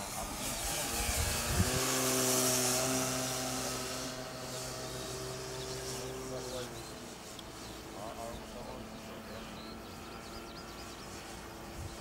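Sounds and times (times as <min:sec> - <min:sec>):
model airplane propeller humming: 0:00.0 - 0:12.0.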